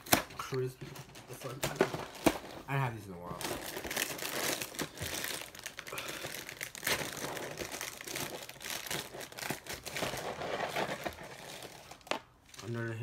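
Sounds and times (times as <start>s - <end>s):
plastic bag crinkling: 0.4s - 13.0s.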